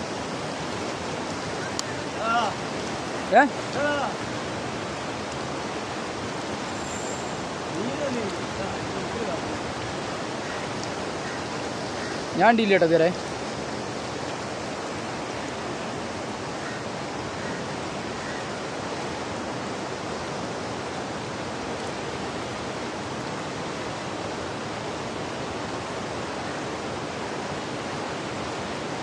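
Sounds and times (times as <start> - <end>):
river water rushing over rocks: 0.0 - 29.0.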